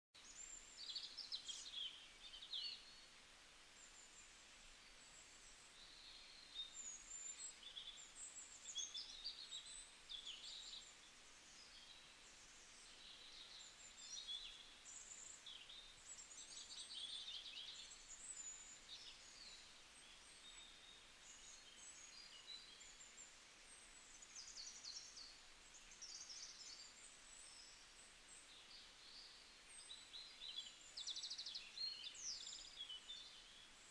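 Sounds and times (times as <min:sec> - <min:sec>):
faint bird chirps and whistles: 0:00.2 - 0:03.1, 0:03.8 - 0:33.9
steady low hiss: 0:00.2 - 0:33.9.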